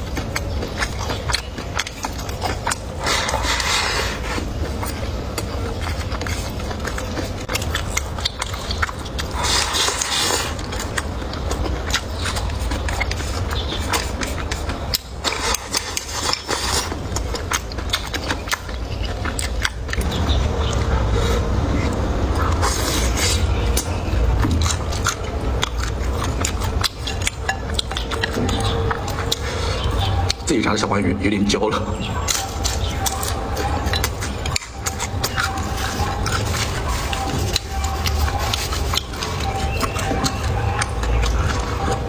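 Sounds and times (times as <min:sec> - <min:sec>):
person chewing and crunching food: 0:00.0 - 0:42.0
rasping noises: 0:00.0 - 0:42.0
steady low hum: 0:00.0 - 0:42.0.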